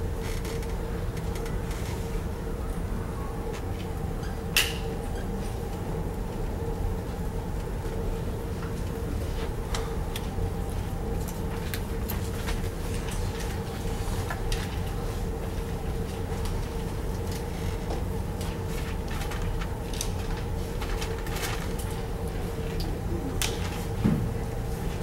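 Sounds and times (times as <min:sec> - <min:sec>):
room hum: 0:00.0 - 0:25.0.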